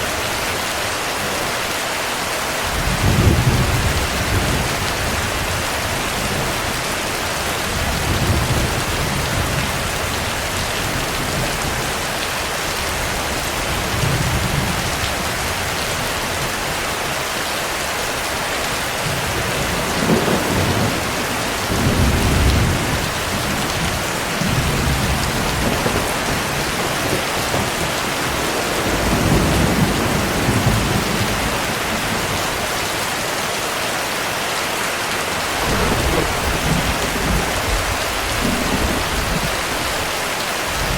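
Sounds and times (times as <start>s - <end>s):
heavy rain hissing: 0.0s - 40.9s
thunder rumbling: 2.6s - 16.9s, 18.0s - 33.4s, 35.2s - 40.9s.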